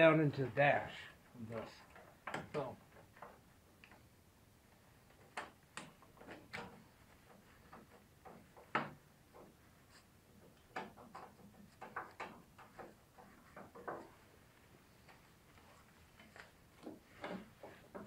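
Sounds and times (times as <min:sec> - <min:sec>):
hand tools clicking and knocking: 0:01.5 - 0:04.1, 0:05.1 - 0:18.0.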